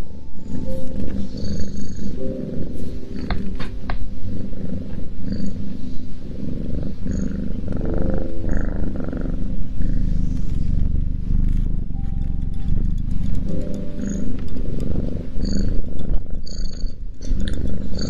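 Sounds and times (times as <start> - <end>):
cat purring loudly: 0.0 - 18.0.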